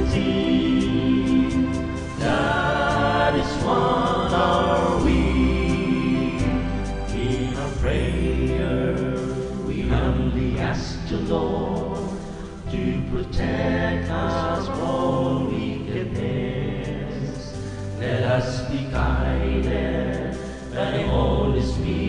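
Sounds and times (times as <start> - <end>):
instrumental backing: 0.0 - 22.0
voices singing religious song: 0.0 - 22.0.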